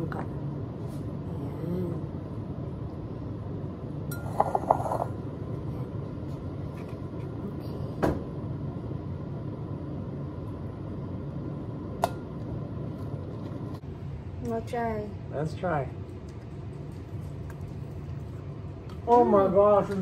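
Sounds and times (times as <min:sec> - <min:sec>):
low hum: 0:00.0 - 0:19.7.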